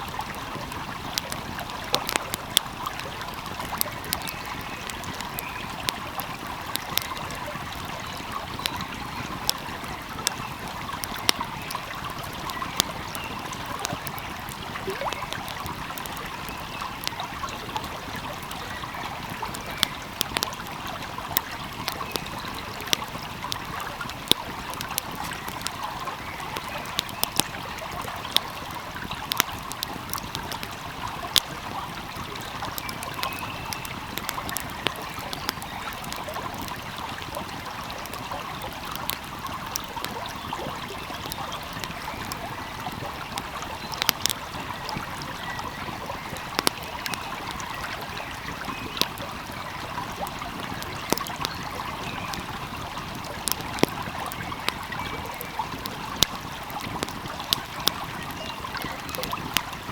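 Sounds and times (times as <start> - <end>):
small stream flowing: 0.0 - 59.9
wood fire crackling and popping: 0.0 - 59.9.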